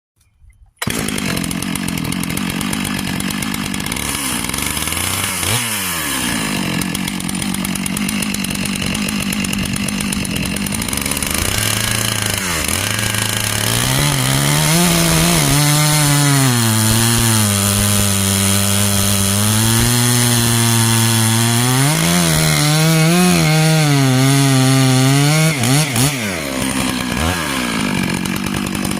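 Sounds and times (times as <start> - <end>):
chainsaw running: 0.8 - 28.9.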